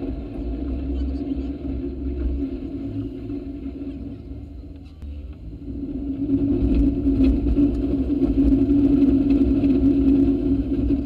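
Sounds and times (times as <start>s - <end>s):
low rumble: 0.0s - 11.0s
rail vehicle motor and wheels droning: 0.0s - 11.0s
wheels clicking over rails: 0.0s - 11.0s.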